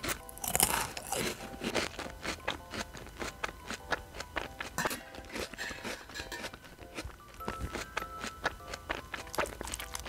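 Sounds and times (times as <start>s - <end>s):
dry noodles crunching: 0.0s - 10.0s.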